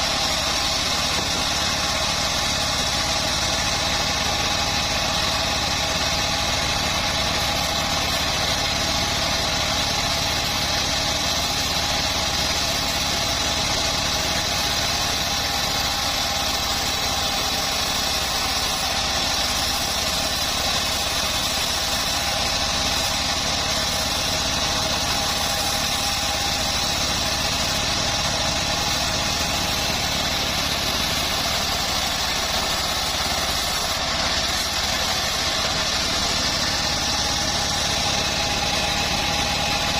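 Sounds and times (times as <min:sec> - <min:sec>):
bandsaw mill humming and whining: 0:00.0 - 0:39.9.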